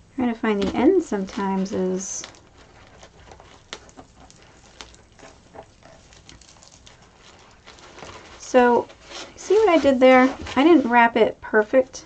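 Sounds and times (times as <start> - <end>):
raffia strands rustling: 0.0 - 11.9.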